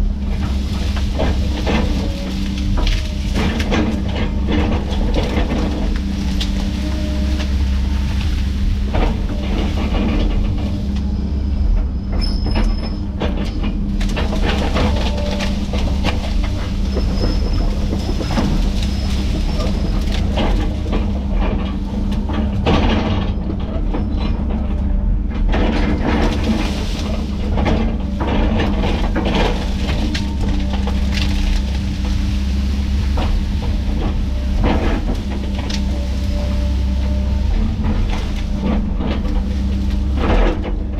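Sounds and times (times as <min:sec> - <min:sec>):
heavy diesel machine engine: 0:00.0 - 0:40.9
cracks and clanks: 0:00.2 - 0:40.9.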